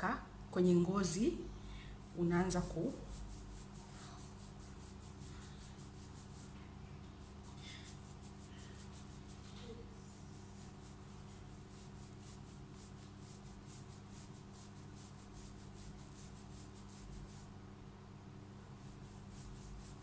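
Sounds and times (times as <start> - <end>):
steady low hum: 0.0 - 20.0
fingertips rubbing scalp and hair: 2.0 - 17.6, 18.6 - 20.0.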